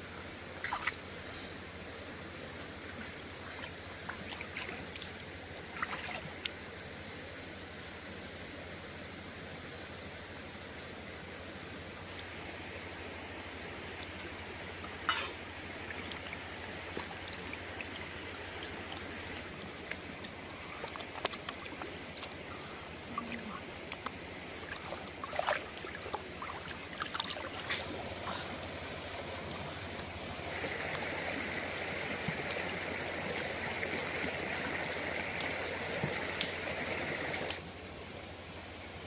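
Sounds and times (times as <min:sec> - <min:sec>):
stream running: 0:00.0 - 0:39.0.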